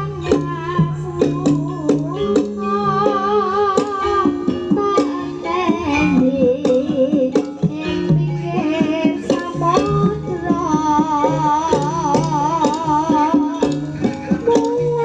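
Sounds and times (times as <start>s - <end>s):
plucked strings: 0.0s - 15.0s
struck percussion notes: 0.0s - 15.0s
woman singing: 0.0s - 15.0s.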